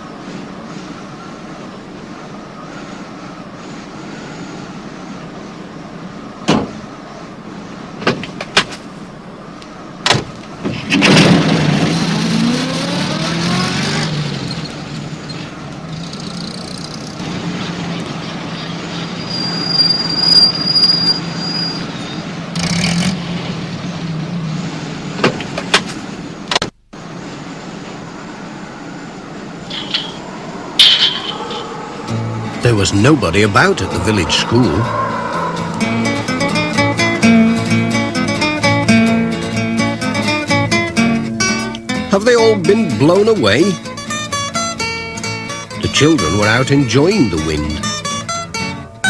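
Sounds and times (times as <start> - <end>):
wind-like background noise: 0.0 - 49.0.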